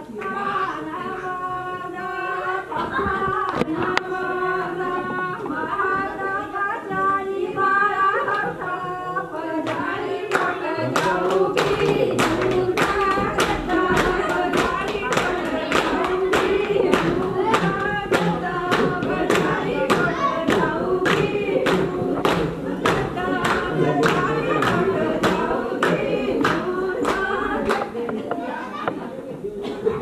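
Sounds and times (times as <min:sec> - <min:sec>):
women singing together: 0:00.0 - 0:30.0
rhythmic hand clapping: 0:03.0 - 0:29.0.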